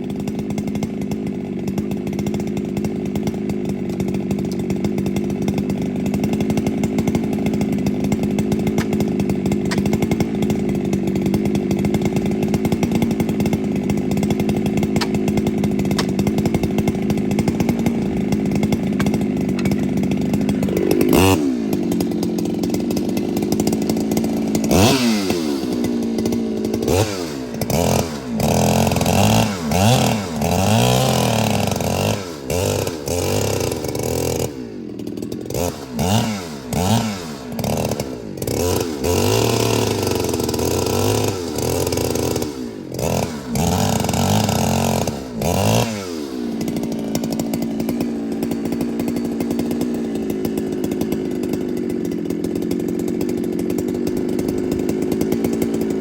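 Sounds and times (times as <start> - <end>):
chainsaw running at full throttle: 0.0 - 56.0.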